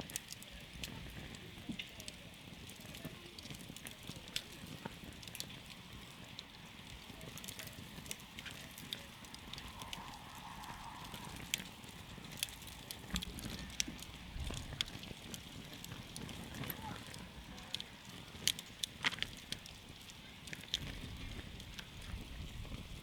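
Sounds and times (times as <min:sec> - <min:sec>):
campfire pops and snaps: 0:00.0 - 0:23.0
low rush of flames: 0:00.0 - 0:23.0.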